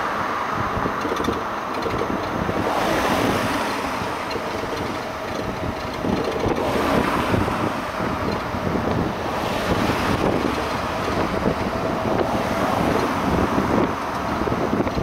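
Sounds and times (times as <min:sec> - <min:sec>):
wind noise on microphone: 0:00.0 - 0:15.0
electric train running: 0:00.8 - 0:15.0.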